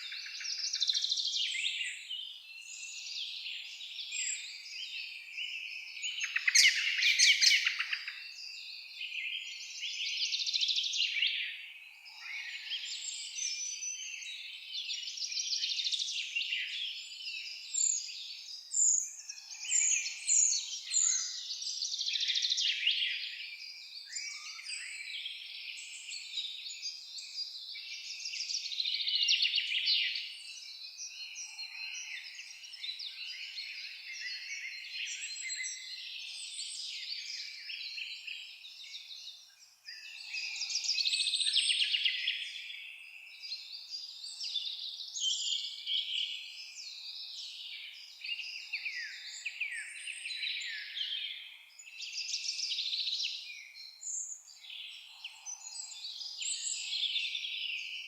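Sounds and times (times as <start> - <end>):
forest birds chirping: 0.0 - 58.0.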